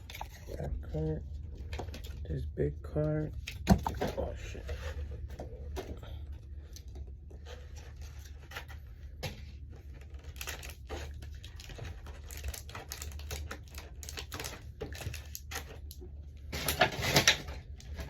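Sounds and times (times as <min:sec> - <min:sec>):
cards and wrappers rustling: 0:00.0 - 0:18.0
steady low hum: 0:00.0 - 0:18.0.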